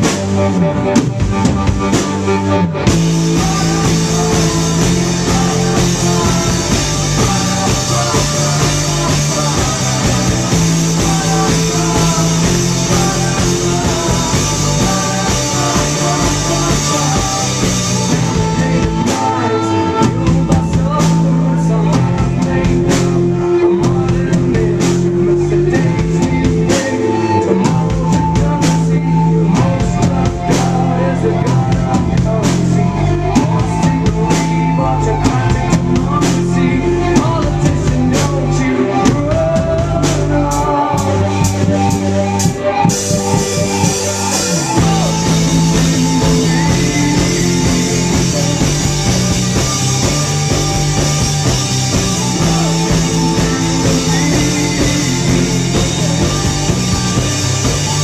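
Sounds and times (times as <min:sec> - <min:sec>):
bass stabs: 0:00.0 - 0:58.0
live rock band playing: 0:00.0 - 0:58.0.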